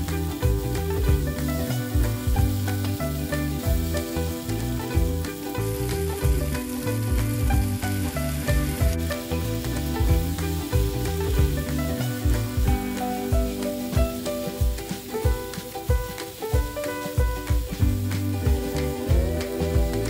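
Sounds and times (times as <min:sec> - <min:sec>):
background music: 0:00.0 - 0:20.0
meat and onions sizzling in pan: 0:00.0 - 0:20.0.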